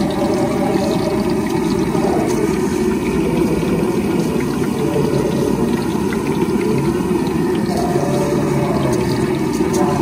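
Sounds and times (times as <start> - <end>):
oil sizzling and crackling: 0.0 - 10.0
stove burner roaring: 0.0 - 10.0.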